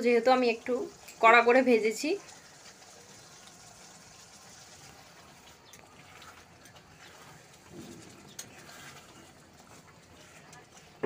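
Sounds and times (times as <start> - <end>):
gravy simmering: 0.0 - 11.0.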